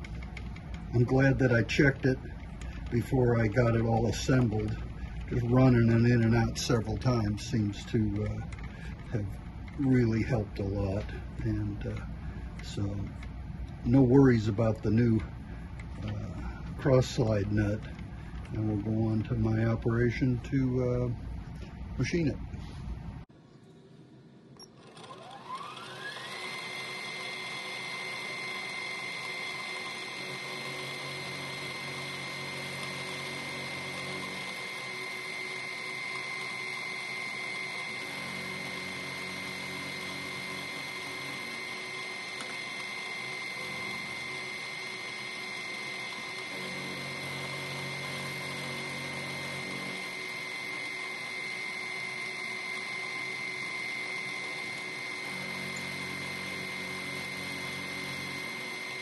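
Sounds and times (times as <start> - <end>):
milling machine spindle whine: 0.0 - 23.2, 24.6 - 59.0.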